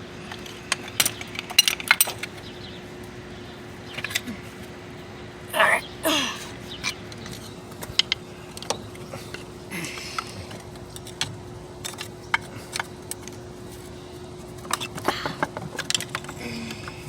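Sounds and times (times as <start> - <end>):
faint hum: 2.3 - 17.0.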